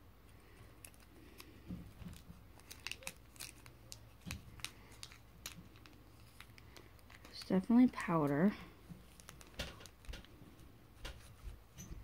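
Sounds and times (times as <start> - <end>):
plastic bag crinkling: 0.4 - 11.4.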